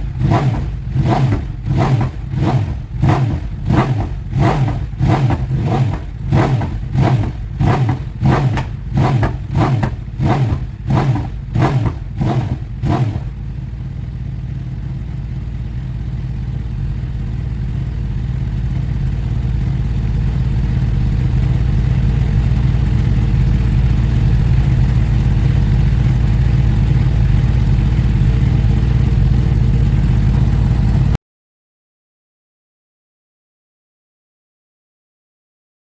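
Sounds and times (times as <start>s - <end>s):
motorcycle engine revving: 0.0s - 31.2s.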